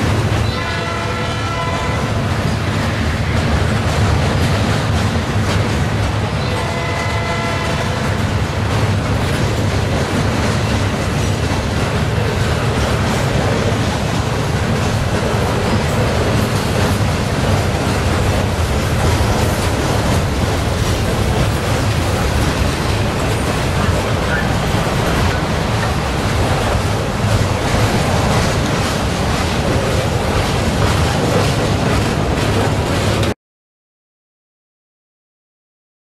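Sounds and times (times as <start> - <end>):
freight train rumbling past: 0.0 - 33.4.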